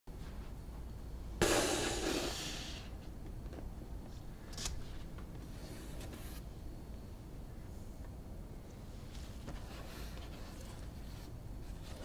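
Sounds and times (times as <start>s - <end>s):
low room hum: 0.1s - 12.0s.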